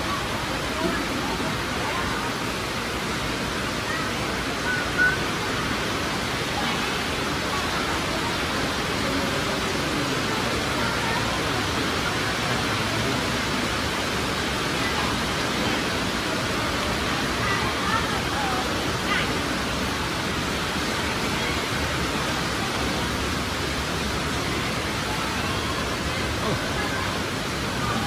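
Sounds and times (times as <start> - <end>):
faint voices: 0.0 - 28.0
street rushing noise: 0.0 - 28.0.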